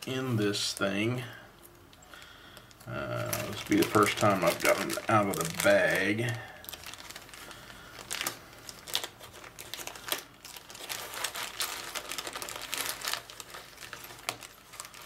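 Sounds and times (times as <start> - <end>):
plastic bag crinkling: 2.2 - 15.0.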